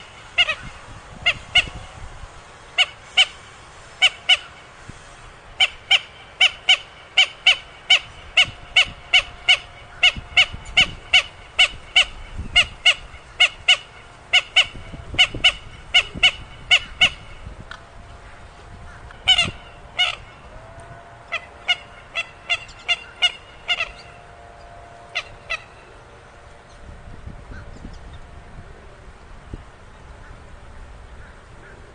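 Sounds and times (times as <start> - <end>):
rail bird calling: 0.0 - 31.9.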